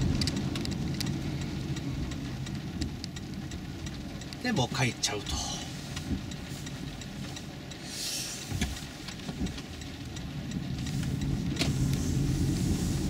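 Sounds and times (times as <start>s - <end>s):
light ticks: 0.0s - 13.0s
road and tyre rumble: 0.0s - 13.0s.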